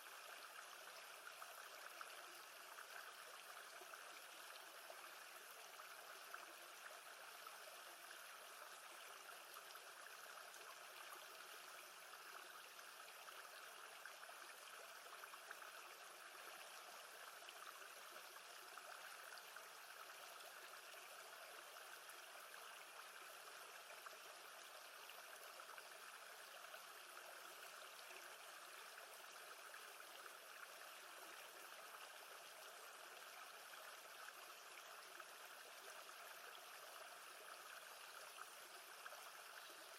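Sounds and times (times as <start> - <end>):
calm lake water: 0.0 - 39.9.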